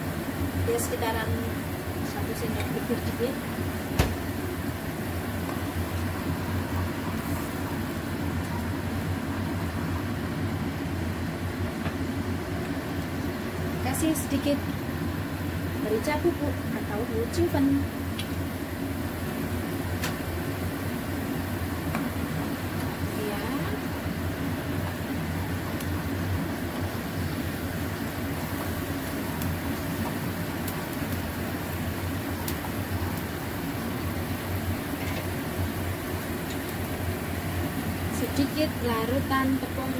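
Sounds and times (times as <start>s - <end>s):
gas burner rumble: 0.0s - 39.9s
sauce simmering: 1.5s - 13.8s, 17.8s - 39.3s.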